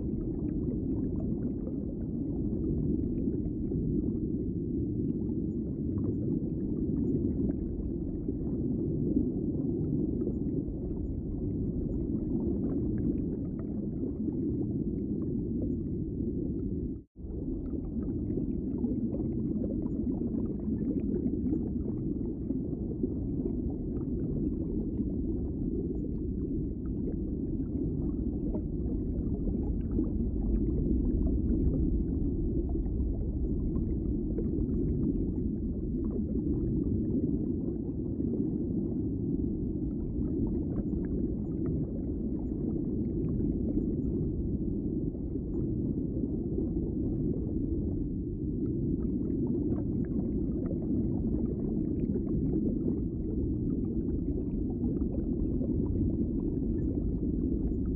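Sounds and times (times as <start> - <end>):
muffled underwater rumble: 0.0 - 57.9.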